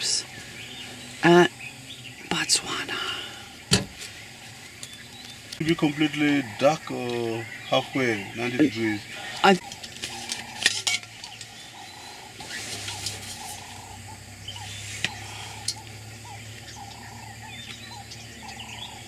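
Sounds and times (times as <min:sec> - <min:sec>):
chorus of animal calls: 0:00.0 - 0:19.0.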